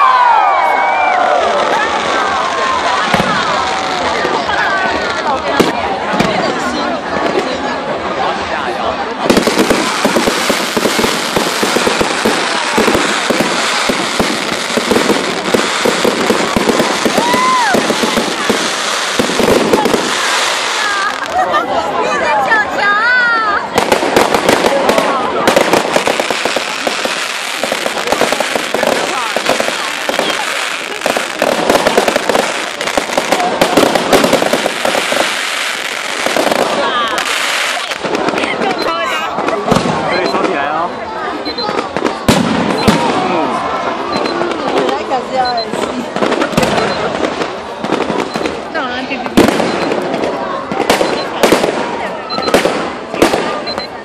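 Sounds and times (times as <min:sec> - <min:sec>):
fireworks cracking and popping: 0:00.0 - 0:07.8, 0:09.2 - 0:21.7, 0:22.4 - 0:54.0.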